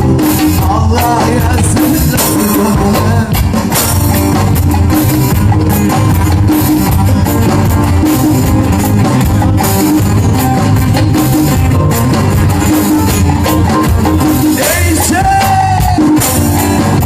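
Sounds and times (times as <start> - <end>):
live band instrumental: 0.0 - 17.0.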